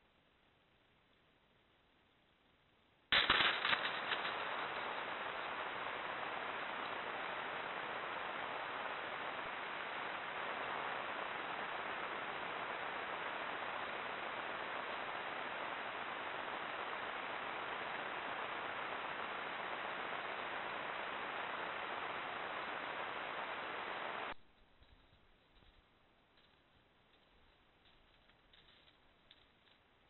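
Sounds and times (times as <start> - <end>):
steady microphone hiss: 0.0 - 30.0.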